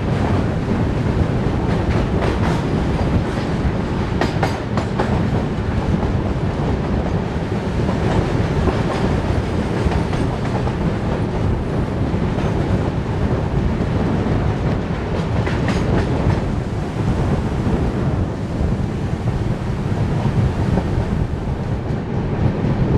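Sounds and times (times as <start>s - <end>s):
rushing air: 0.0s - 22.9s
train wheels rumbling on rails: 0.0s - 22.9s.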